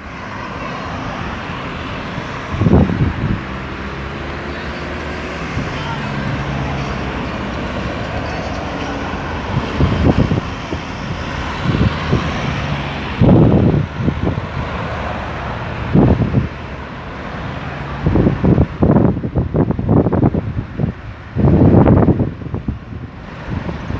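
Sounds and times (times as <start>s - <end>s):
road traffic passing: 0.0s - 23.9s
wind buffeting microphone: 0.9s - 23.9s.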